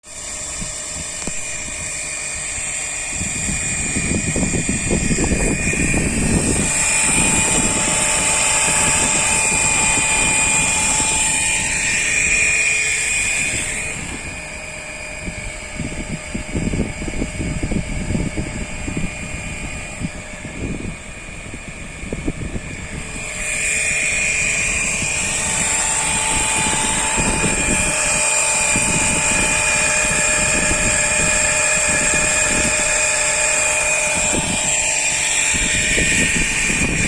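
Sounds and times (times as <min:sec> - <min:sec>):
electric pump whining: 0:00.0 - 0:37.0
low sputtering: 0:00.0 - 0:37.0.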